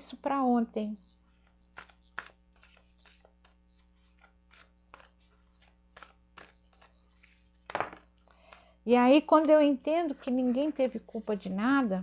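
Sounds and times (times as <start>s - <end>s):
cards being shuffled: 1.2s - 11.8s.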